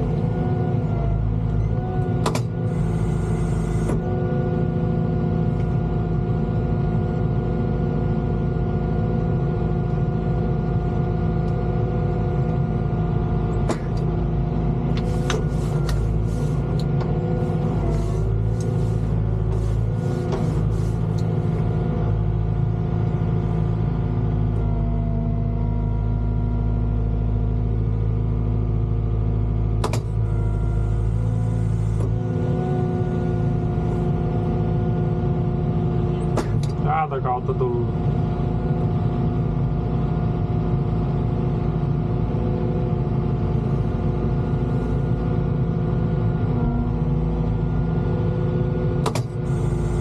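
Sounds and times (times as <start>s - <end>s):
excavator engine running: 0.0s - 50.0s.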